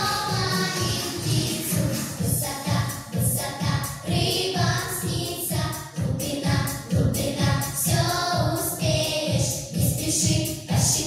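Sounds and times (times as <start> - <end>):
children's song with singing: 0.0 - 11.0.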